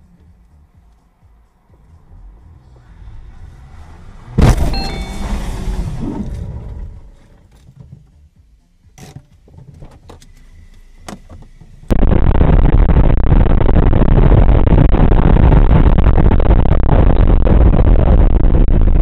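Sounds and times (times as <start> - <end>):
car driving at highway speed: 0.0 - 19.0.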